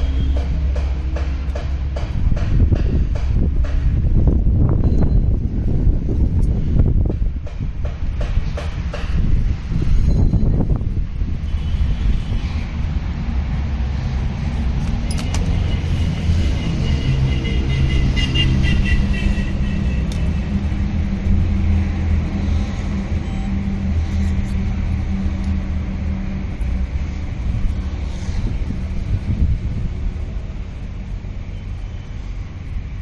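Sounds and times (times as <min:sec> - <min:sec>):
motor vehicle engine rumbling: 0:00.0 - 0:33.0.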